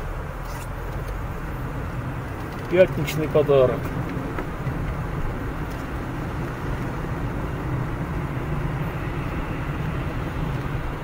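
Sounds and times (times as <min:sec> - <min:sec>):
car road noise on wet road: 0:00.0 - 0:11.0.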